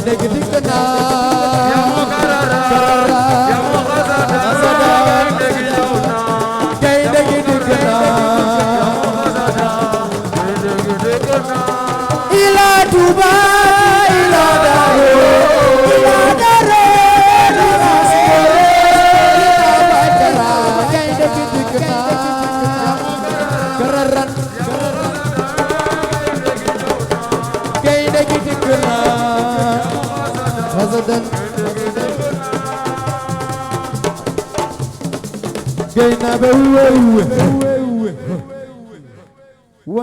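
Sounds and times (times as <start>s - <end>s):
person singing melody: 0.0s - 32.8s
hand drums: 0.0s - 37.8s
rattling percussion: 0.0s - 37.8s.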